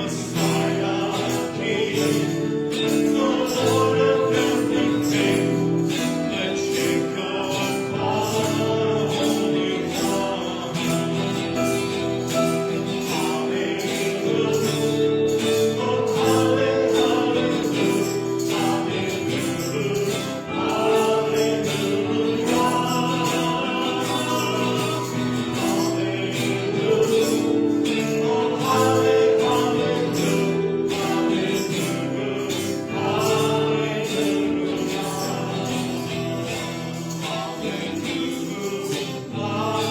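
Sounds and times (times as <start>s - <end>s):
choir singing gospel music: 0.0s - 39.9s
tambourine jingle beat: 0.0s - 39.9s.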